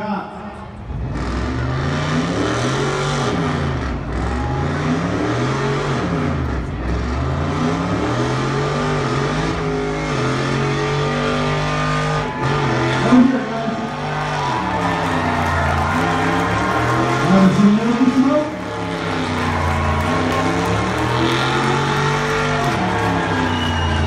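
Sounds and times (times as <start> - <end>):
car engine revving: 0.7 - 24.0
tires spinning in burnout: 0.9 - 24.0.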